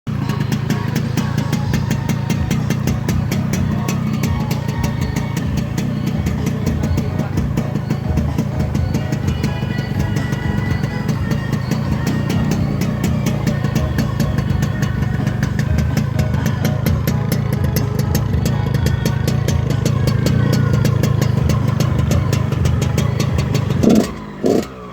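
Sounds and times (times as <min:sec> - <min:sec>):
two-stroke engine idling: 0:00.1 - 0:24.9.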